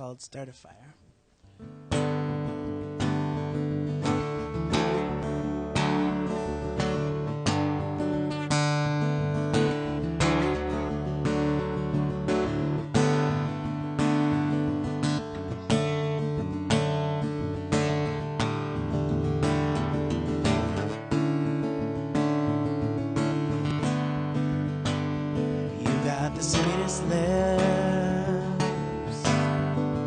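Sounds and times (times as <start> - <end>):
acoustic guitar strumming chords: 1.5 - 30.0.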